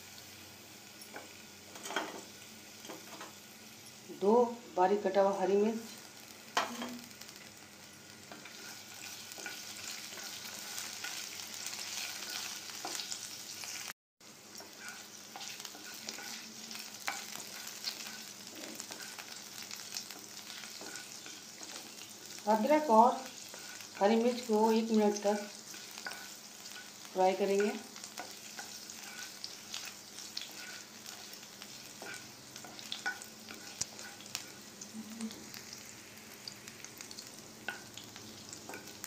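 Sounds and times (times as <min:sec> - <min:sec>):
chillies sizzling in hot oil: 0:00.0 - 0:39.0.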